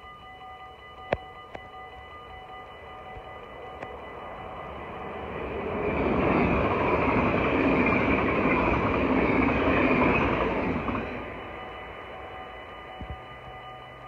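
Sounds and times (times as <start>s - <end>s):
train wheels rumbling on rails: 2.3s - 14.0s.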